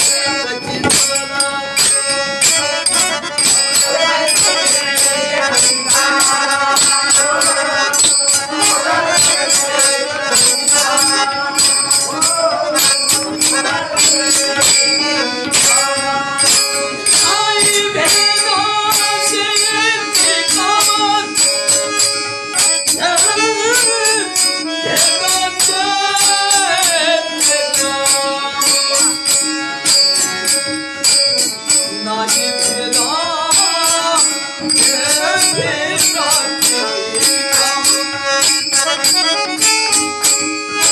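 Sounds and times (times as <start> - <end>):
man singing: 0.0 - 29.9, 31.4 - 40.9
jingling hand percussion: 0.0 - 40.9.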